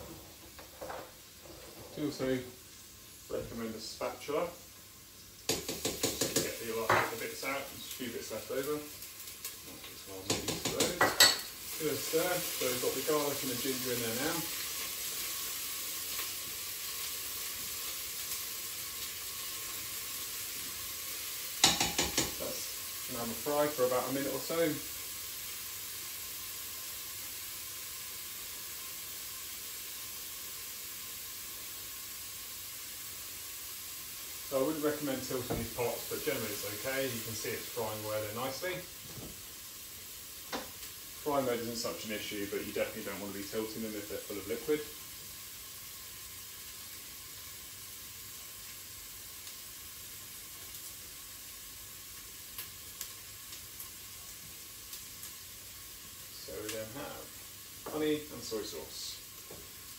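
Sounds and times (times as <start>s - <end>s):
garlic sizzling in hot oil: 0.0s - 59.9s.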